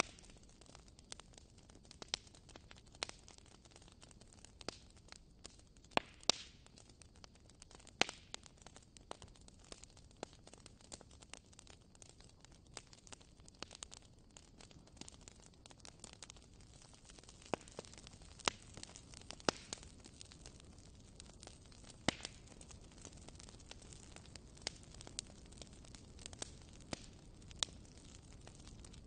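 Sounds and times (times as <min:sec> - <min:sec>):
fire crackling: 0:00.0 - 0:29.0.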